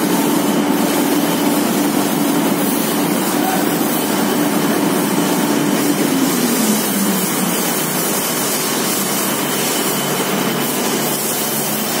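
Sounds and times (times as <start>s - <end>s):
machine mechanical din: 0.3s - 12.0s.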